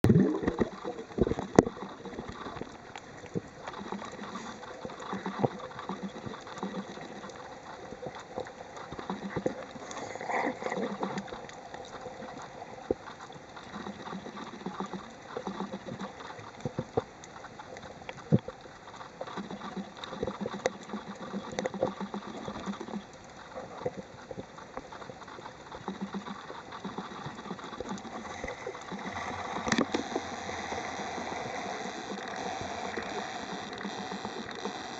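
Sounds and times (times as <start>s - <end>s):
bubbling and gurgling: 0.0s - 34.9s
underwater clicks and crackles: 0.0s - 34.9s
underwater water wash: 0.0s - 34.9s.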